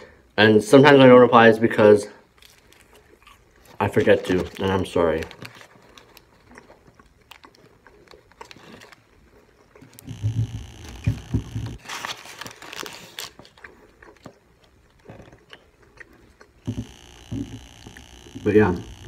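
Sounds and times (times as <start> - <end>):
person chewing: 2.3 - 19.0.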